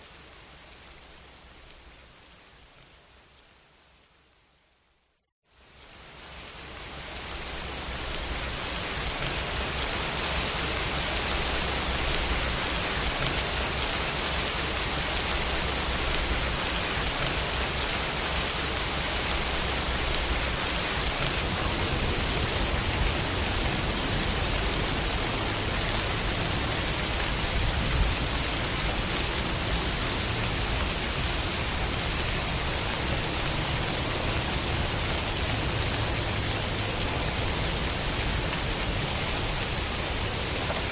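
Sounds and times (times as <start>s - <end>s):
heavy rain hissing: 5.6s - 40.9s.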